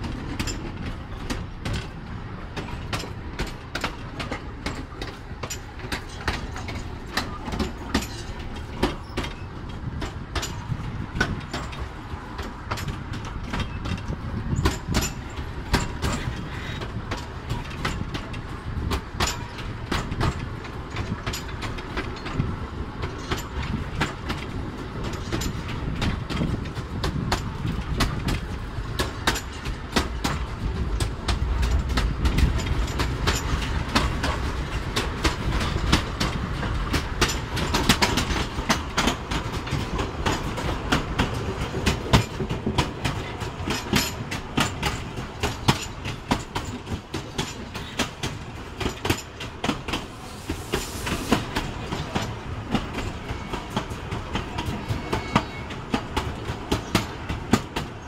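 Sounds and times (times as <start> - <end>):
wheels clacking and knocking: 0.0 - 50.2, 51.1 - 58.0
train carriage rumbling: 0.0 - 58.0.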